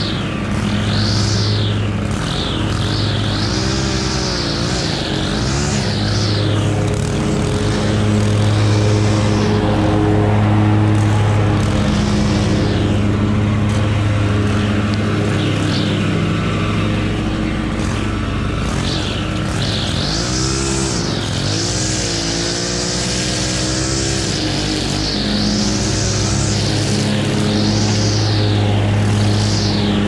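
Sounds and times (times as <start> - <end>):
string trimmer engine running: 0.0 - 30.0.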